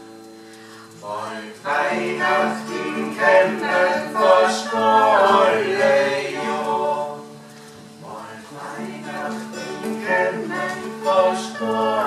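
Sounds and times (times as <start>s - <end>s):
acoustic guitar: 0.0s - 12.0s
group of voices singing: 0.9s - 12.0s.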